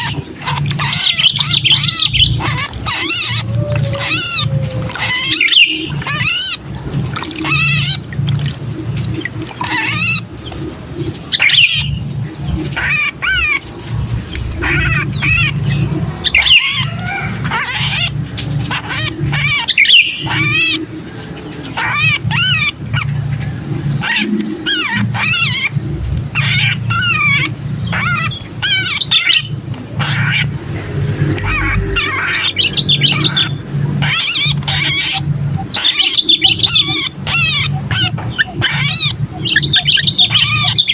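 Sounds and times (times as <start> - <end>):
bulbuls warbling distress calls: 0.0 - 40.9
low hum: 1.4 - 28.6, 29.5 - 40.9.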